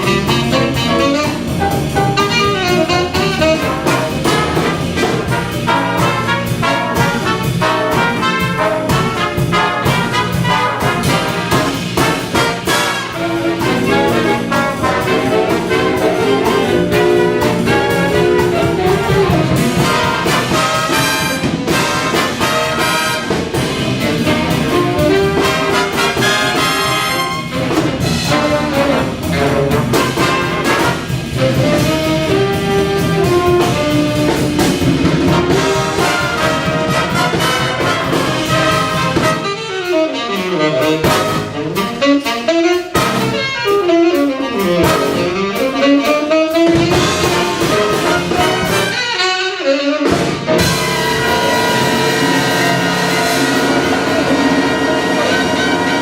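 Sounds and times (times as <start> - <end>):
big band playing swing jazz: 0.0 - 56.0.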